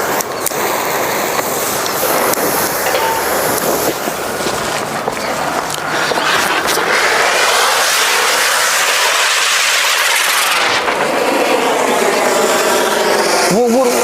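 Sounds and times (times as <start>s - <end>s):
fireworks hissing sparks: 0.0s - 14.0s.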